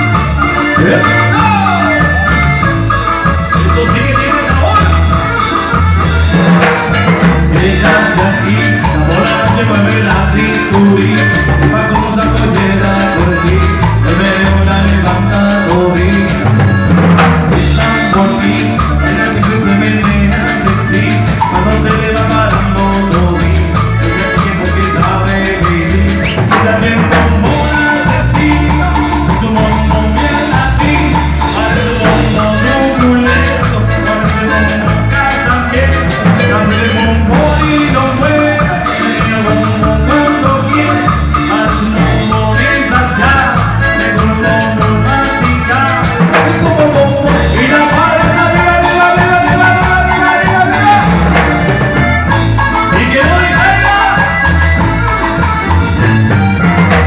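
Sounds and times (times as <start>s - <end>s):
live latin dance band: 0.0s - 57.0s.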